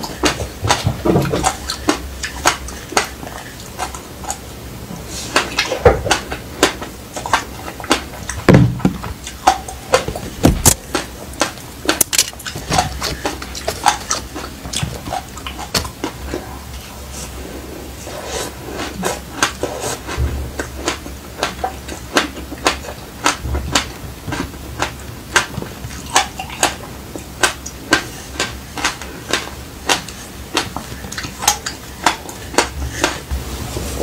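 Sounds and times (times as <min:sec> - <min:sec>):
crunchy chewing: 0:00.0 - 0:08.5, 0:09.2 - 0:33.4.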